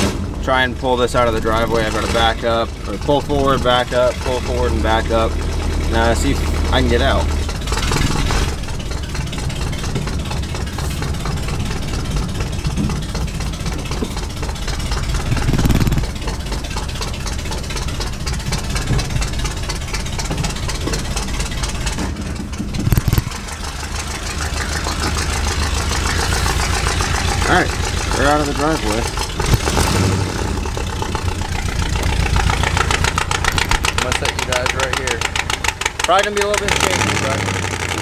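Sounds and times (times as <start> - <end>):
truck engine low rumble: 0.0 - 38.0.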